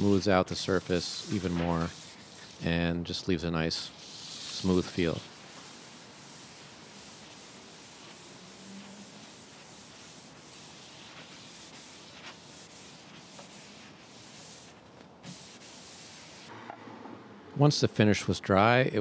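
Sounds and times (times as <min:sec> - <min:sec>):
towel rubbing on wood: 0:00.0 - 0:03.0, 0:03.7 - 0:16.5.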